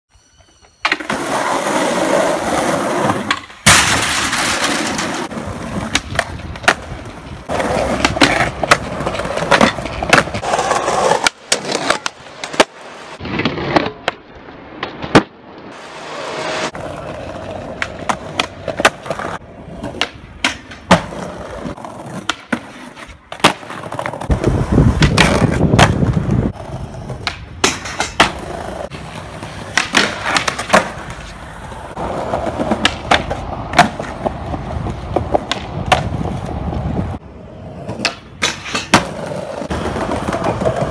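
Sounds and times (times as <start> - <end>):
skateboard wheels rolling on pavement: 0.2 - 40.9
skateboard clacks: 3.1 - 14.2, 16.7 - 36.8, 37.8 - 40.9.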